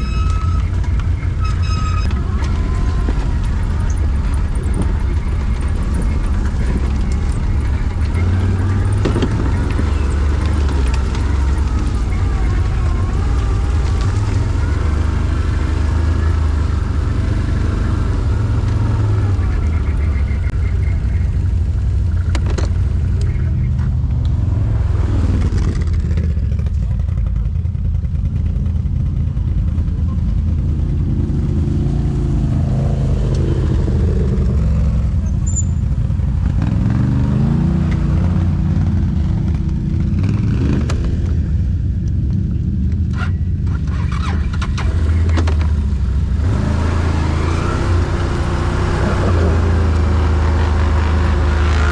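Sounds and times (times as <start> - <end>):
quad bike engine revving: 0.0 - 51.9.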